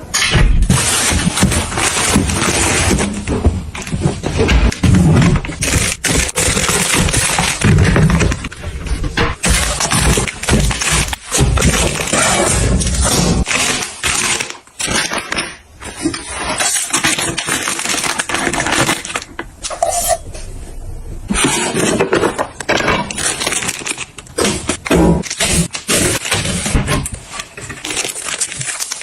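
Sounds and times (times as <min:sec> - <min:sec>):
hard objects clinking and clattering: 0:00.1 - 0:20.3, 0:21.3 - 0:29.0.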